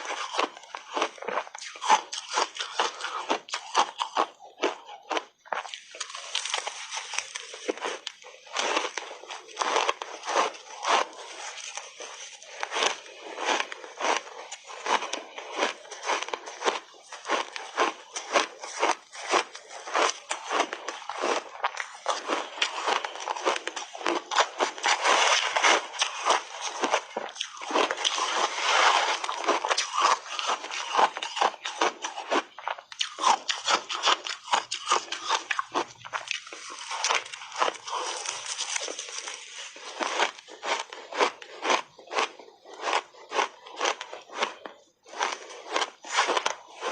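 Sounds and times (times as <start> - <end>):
ice crunching being chewed: 0.0 - 46.9.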